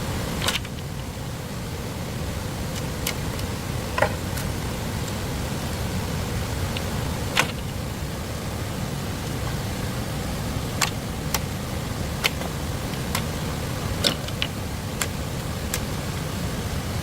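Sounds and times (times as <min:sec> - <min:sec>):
low rushing noise: 0:00.0 - 0:17.0.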